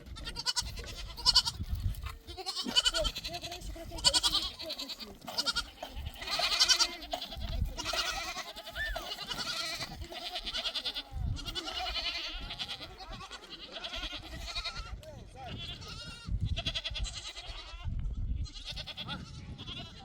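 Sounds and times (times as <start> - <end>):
sheep and goats bleating: 0.0 - 20.0.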